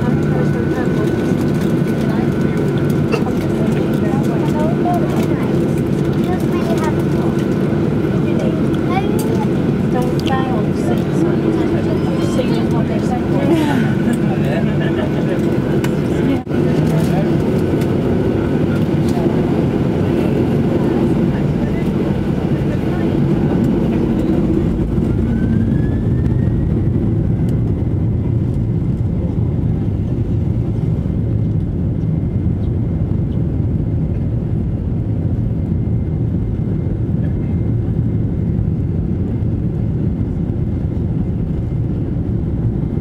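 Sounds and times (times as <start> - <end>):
jet engines rumbling in cabin: 0.0 - 43.0
thin engine whine: 0.0 - 43.0.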